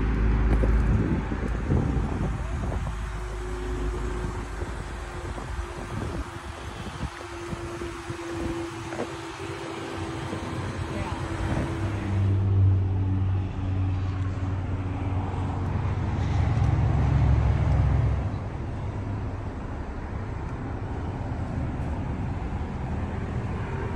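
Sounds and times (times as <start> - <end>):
traffic noise: 0.0 - 23.9
vehicle engine rumbling: 0.0 - 23.9.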